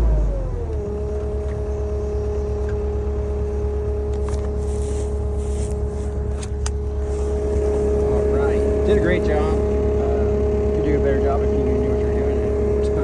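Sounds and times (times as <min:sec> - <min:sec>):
engine rumbling: 0:00.0 - 0:13.0
hydraulic whine: 0:00.0 - 0:13.0.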